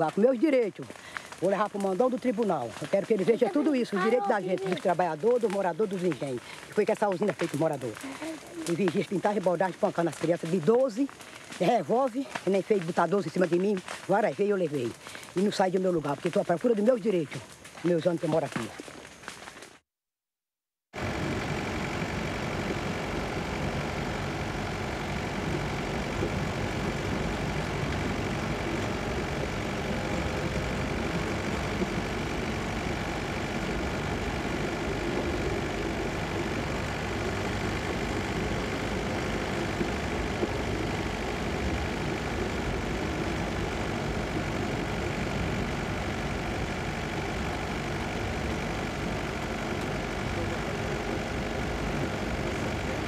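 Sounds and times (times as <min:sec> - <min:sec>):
vehicle engine running: 0:01.2 - 0:14.0, 0:21.0 - 0:53.0.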